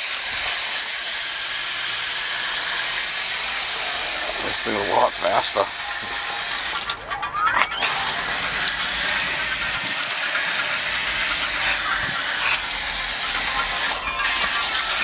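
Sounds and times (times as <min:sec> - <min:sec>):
coil cleaner spray hissing: 0:00.0 - 0:15.0.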